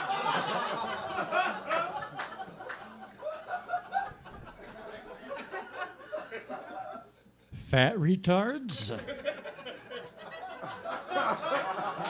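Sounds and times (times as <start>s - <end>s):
audience laughing: 0.0s - 7.2s, 8.8s - 12.0s.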